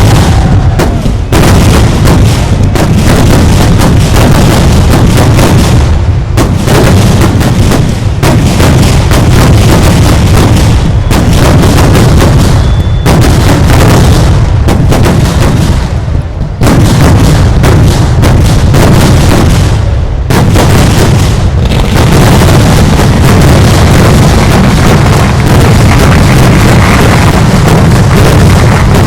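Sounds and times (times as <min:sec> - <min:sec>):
fireworks exploding: 0:00.0 - 0:29.0.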